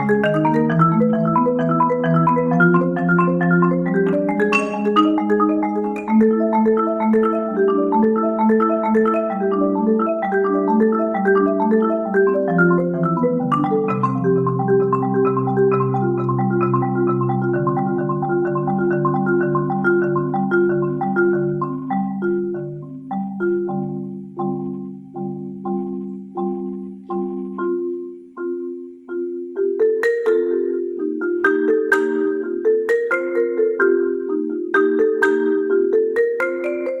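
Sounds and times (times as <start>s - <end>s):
solo marimba: 0.0s - 37.0s.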